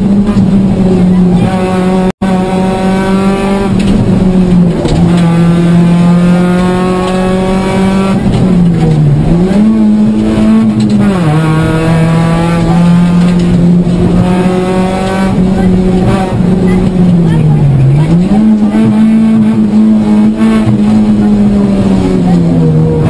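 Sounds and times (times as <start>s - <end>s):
rally car engine at high revs: 0.0s - 23.0s.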